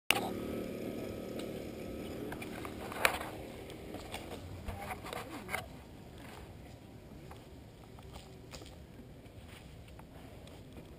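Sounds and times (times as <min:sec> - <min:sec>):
bike tyres rumbling on dirt: 0:00.1 - 0:10.9.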